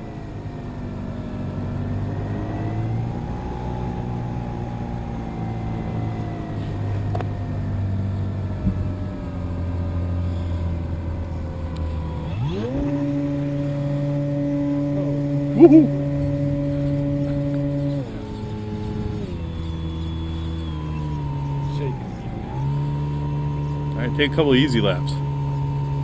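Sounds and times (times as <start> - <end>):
model airplane motor and propeller: 4.8 - 26.0.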